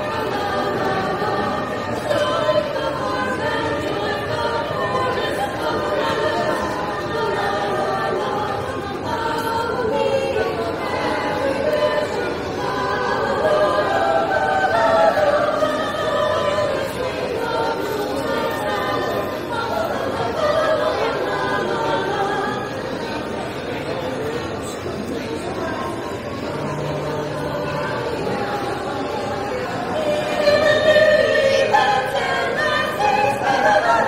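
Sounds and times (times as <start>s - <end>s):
vocal group singing in harmony: 0.0s - 34.0s.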